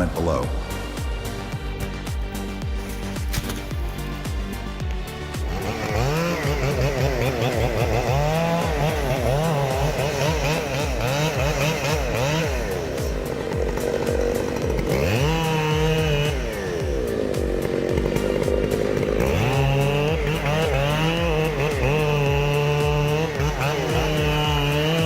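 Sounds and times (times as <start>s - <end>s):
chainsaw engine revving: 0.0s - 25.0s
music: 0.0s - 25.0s.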